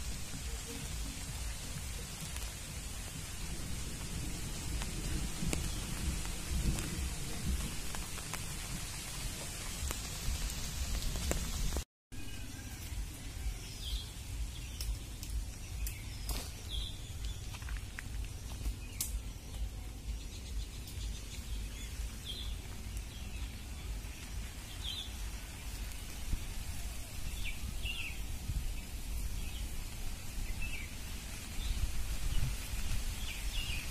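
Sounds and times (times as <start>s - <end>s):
wind buffeting microphone: 0.0s - 11.8s, 15.3s - 33.9s
steady hiss: 0.0s - 33.9s.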